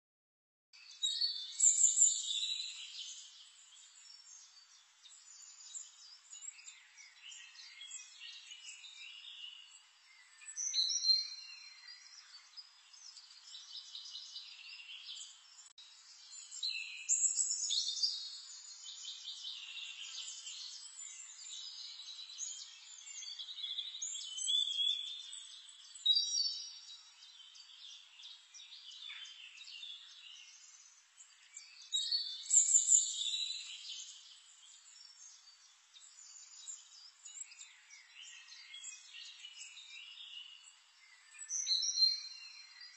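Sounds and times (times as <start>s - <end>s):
birds chirping and twittering: 0.8s - 42.9s.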